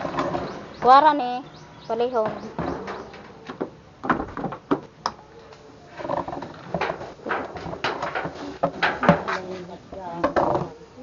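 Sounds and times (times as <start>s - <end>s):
hard objects clicking and knocking: 0.0s - 1.0s, 2.2s - 10.8s.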